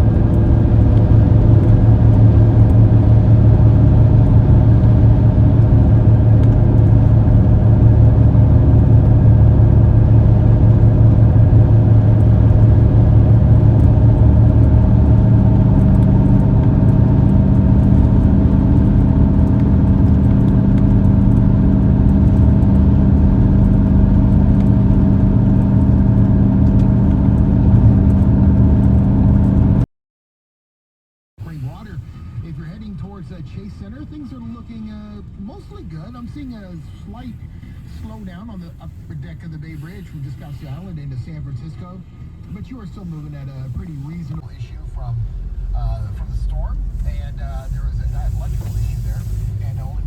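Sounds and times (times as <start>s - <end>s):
car engine and road noise: 0.0s - 29.8s, 31.4s - 50.0s.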